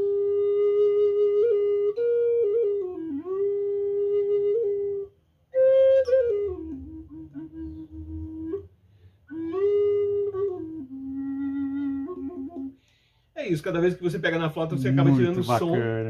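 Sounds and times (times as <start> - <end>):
flute playing slow melody: 0.0 - 13.1.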